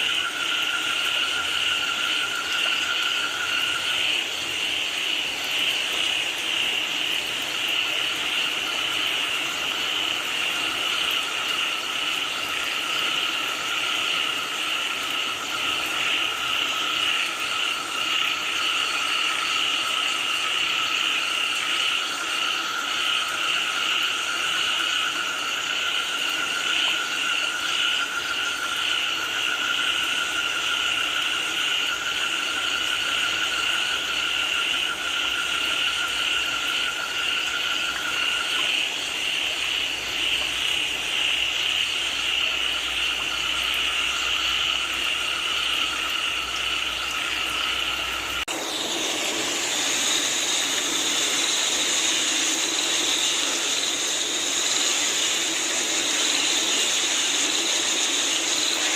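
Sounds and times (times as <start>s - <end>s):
constant hiss: 0.0s - 58.9s
frogs chorus: 0.0s - 58.9s.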